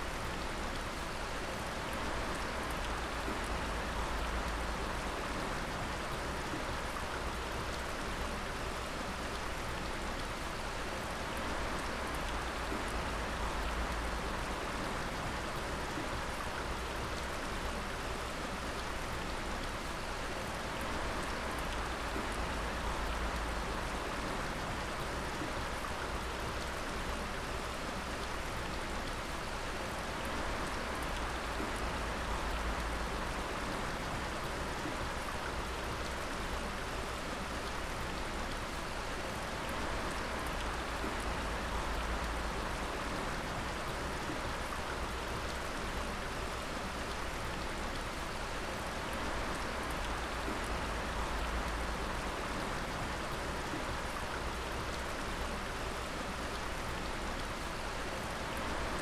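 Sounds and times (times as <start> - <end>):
water dripping and pattering: 0.2 - 59.0.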